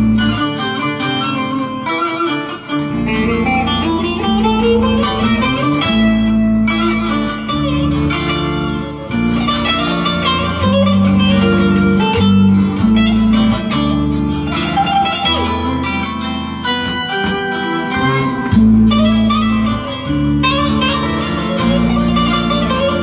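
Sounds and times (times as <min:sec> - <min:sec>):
low bass notes: 0:00.0 - 0:01.9, 0:02.5 - 0:23.0
plucked string music: 0:00.0 - 0:23.0.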